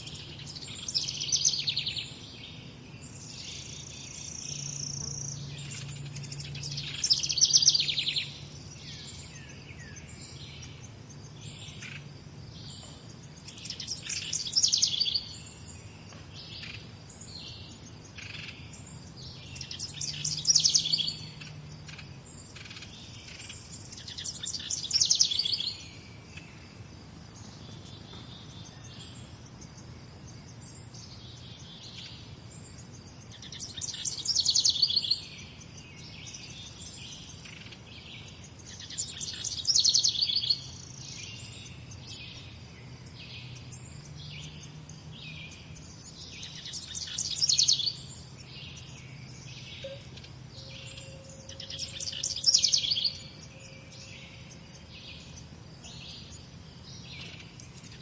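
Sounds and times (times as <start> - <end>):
bird trilled song: 0.0 - 26.6, 27.4 - 58.0
birds chirping: 0.0 - 58.0.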